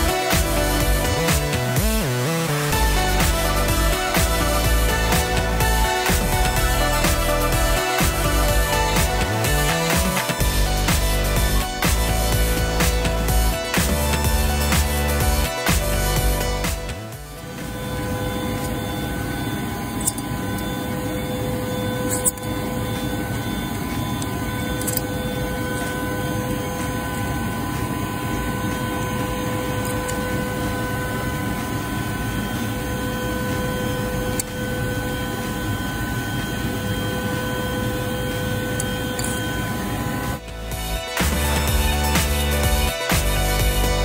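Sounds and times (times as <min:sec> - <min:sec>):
constant whining tones: 0:00.0 - 0:44.0
machinery drone: 0:00.0 - 0:44.0.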